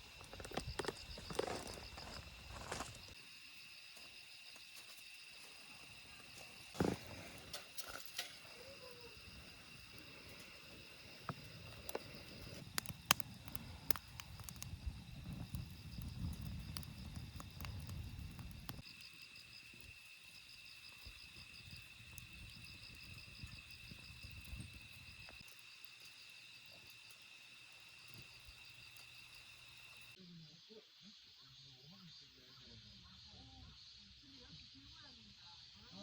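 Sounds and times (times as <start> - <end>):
insects chirping: 0.0 - 36.0.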